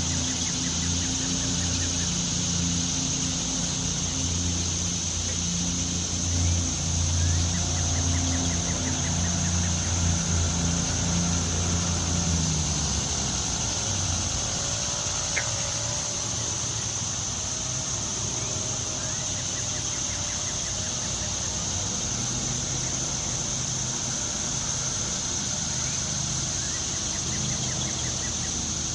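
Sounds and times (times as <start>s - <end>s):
low engine-like hum: 0.0s - 28.9s.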